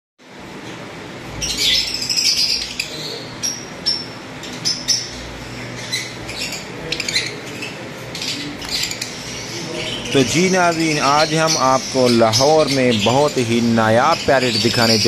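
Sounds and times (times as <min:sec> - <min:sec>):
lovebirds chirping and chattering: 0:00.3 - 0:15.0.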